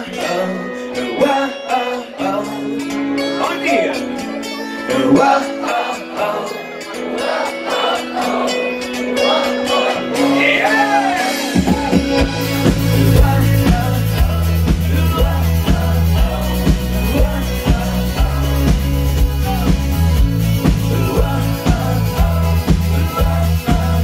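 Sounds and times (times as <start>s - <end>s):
person singing: 0.0s - 24.0s
pop-rock band playing: 0.0s - 24.0s.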